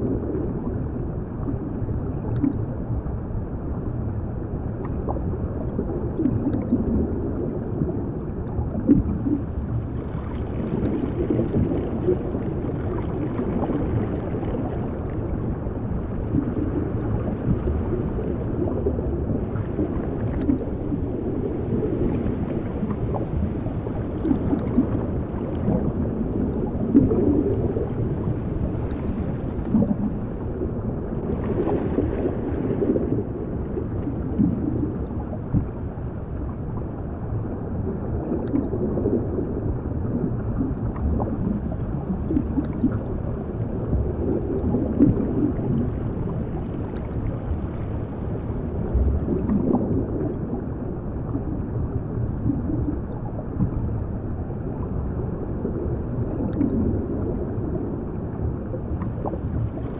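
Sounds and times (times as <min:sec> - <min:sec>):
dull underwater rush: 0:00.0 - 0:59.9
gurgling bubbles: 0:00.0 - 0:59.9.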